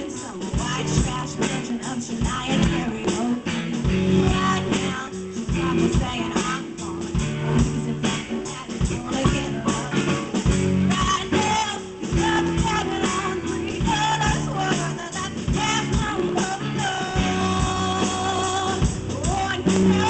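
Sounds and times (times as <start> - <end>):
drum kit beat: 0.0 - 20.0
electric guitar: 0.0 - 20.0
woman singing: 0.0 - 20.0.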